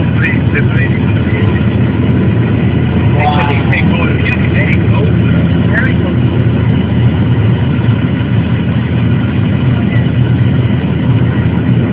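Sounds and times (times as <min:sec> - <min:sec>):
small aircraft engine drone: 0:00.0 - 0:11.9.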